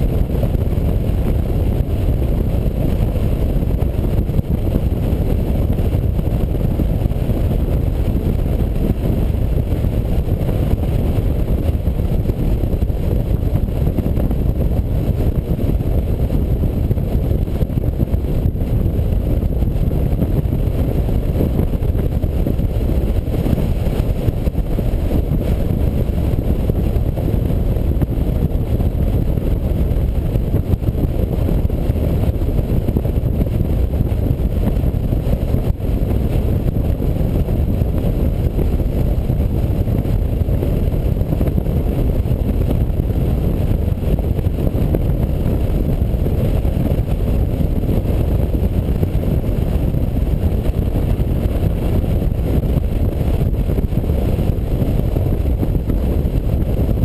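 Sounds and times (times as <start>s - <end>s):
motorcycle engine rumble: 0.0s - 57.0s
wind on microphone: 0.0s - 57.0s.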